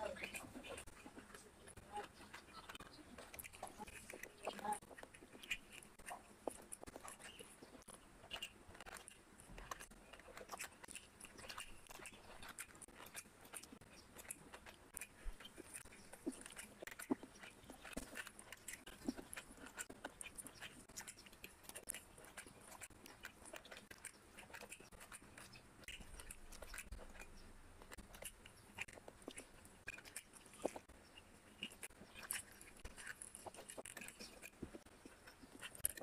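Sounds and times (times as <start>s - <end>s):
fingers working rice on plate: 0.0s - 36.0s
person chewing: 0.0s - 36.0s.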